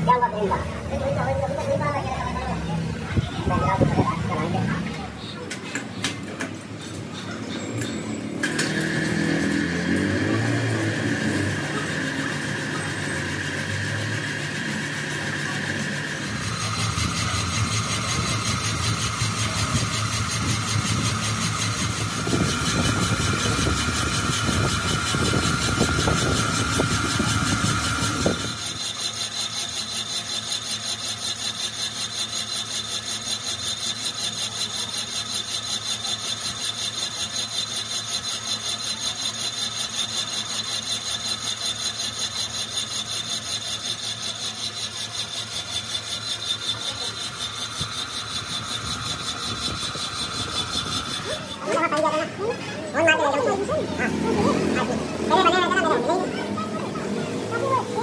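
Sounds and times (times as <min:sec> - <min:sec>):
machine whining over low rumble: 0:00.0 - 0:39.6, 0:40.2 - 0:58.0.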